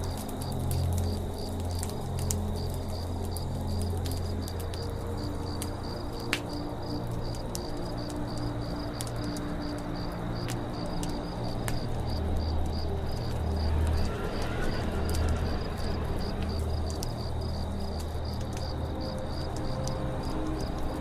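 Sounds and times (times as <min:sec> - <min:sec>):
campfire crackling and popping: 0:00.0 - 0:21.0
insects chirping: 0:00.0 - 0:21.0.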